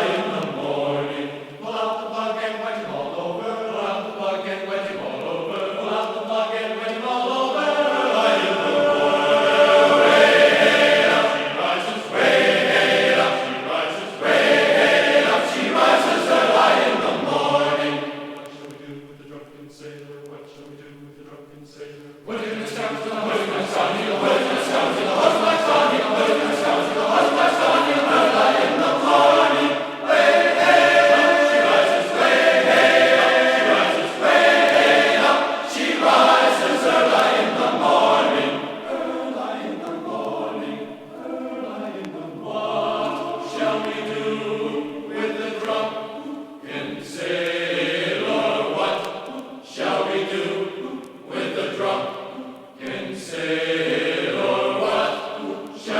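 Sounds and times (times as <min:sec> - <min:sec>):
choir singing: 0:00.0 - 0:55.9.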